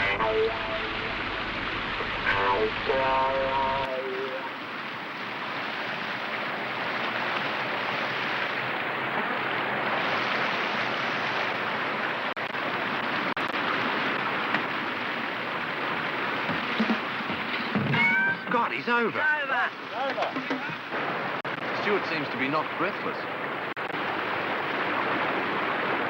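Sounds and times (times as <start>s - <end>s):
river rapids rushing: 0.0s - 26.0s.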